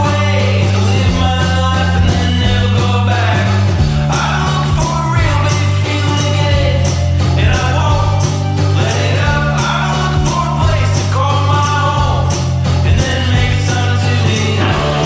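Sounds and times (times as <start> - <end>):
upbeat song with vocals: 0.0 - 15.0.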